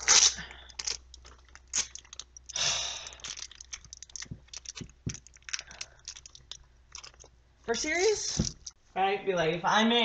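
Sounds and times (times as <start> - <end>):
wax paper crinkling and tearing: 0.0 - 8.8.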